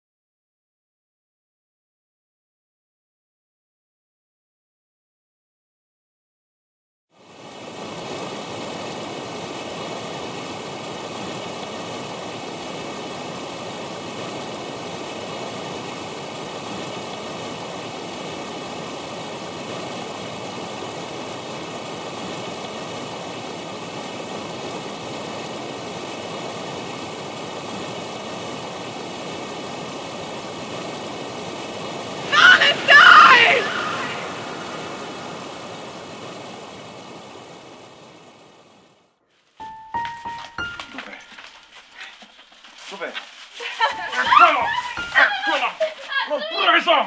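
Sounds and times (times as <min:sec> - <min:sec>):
stream water rushing: 0:07.1 - 0:47.0.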